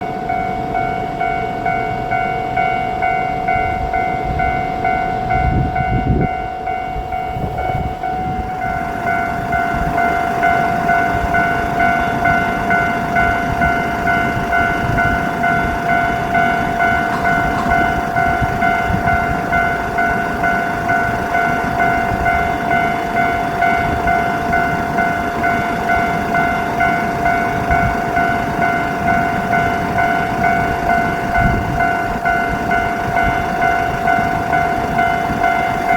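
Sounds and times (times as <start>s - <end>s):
diesel railcar passing: 0.0s - 35.9s
level-crossing bell clanging: 0.0s - 35.9s.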